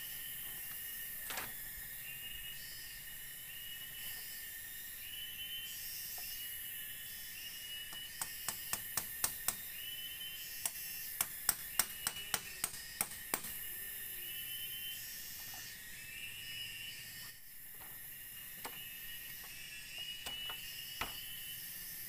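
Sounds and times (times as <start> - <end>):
forest insects chirping: 0.0 - 22.0.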